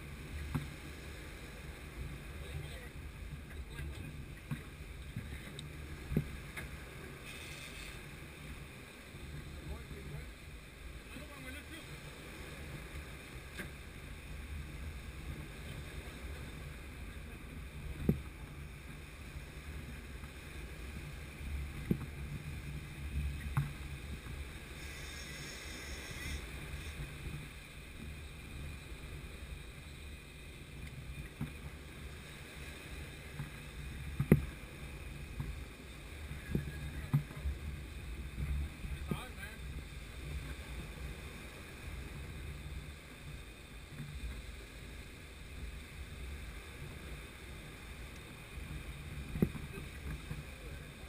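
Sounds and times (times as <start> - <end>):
surf washing on beach: 0.0 - 51.0
wind rumbling on microphone: 0.0 - 51.0.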